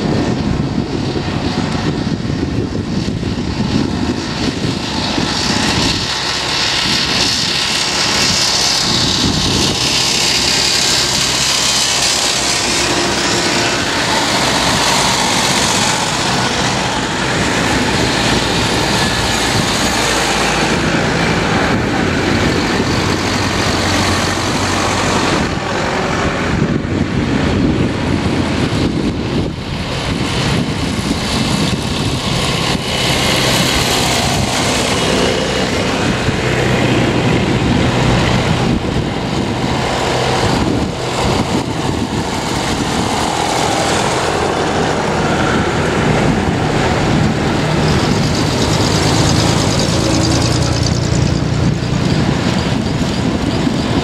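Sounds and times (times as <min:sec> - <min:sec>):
tractor engines passing by: 0:00.0 - 0:54.0.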